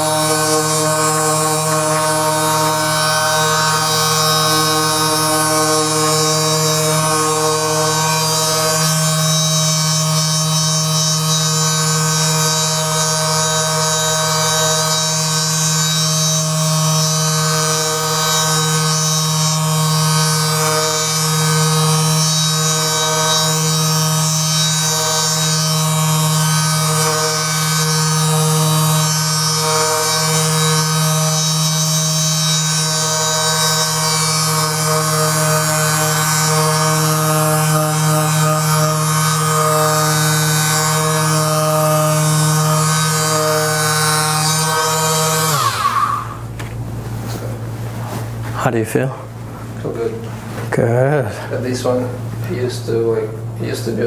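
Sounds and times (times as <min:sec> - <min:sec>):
small motor buzzing: 0:00.0 - 0:46.6.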